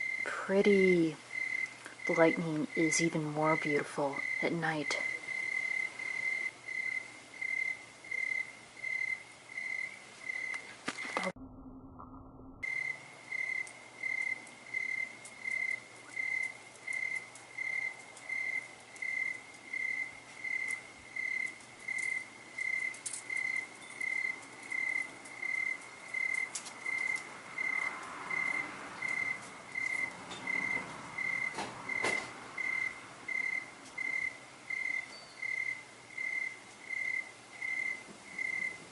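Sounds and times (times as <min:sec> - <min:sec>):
cricket chirping: 0:00.0 - 0:11.8, 0:12.6 - 0:38.8.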